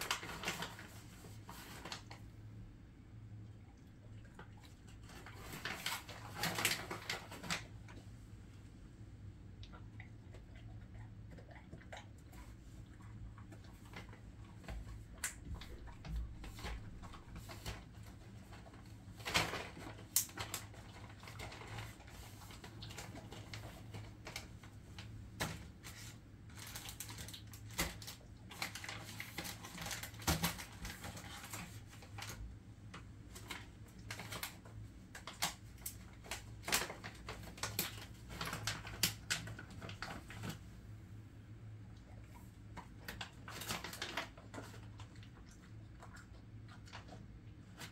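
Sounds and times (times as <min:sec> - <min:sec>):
dog crunching dry treats: 0:00.0 - 0:02.2, 0:04.4 - 0:08.0, 0:09.6 - 0:32.5, 0:33.2 - 0:40.6, 0:42.0 - 0:47.9.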